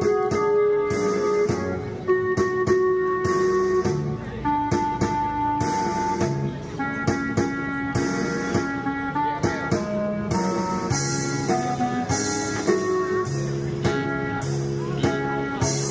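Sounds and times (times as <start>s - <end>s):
held melody notes: 0.0s - 15.9s
steady drum beat: 0.0s - 15.9s.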